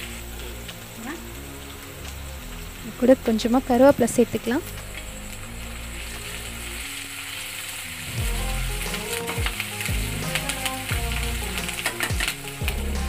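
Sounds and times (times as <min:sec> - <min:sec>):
background music: 0:00.0 - 0:13.0
onions sizzling in hot oil: 0:00.0 - 0:13.0.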